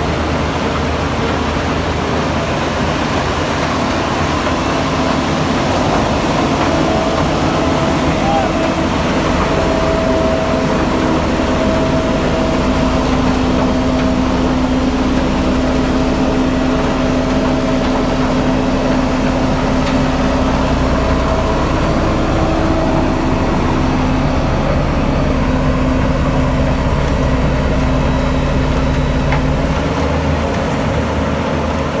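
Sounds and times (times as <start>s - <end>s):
construction machinery engine rumbling: 0.0s - 32.0s.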